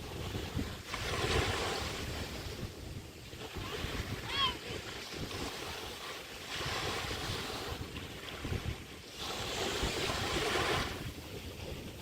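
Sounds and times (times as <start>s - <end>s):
waves washing on sandy beach: 0.0s - 12.0s
wind buffeting microphone: 0.0s - 12.0s.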